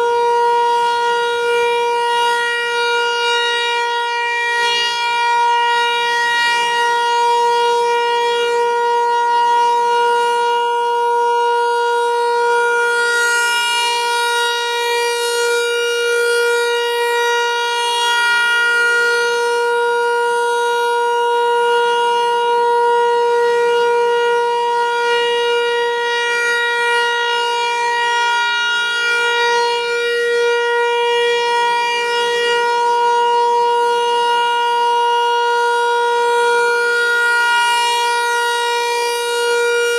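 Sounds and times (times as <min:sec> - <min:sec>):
warning siren: 0:00.0 - 0:39.9.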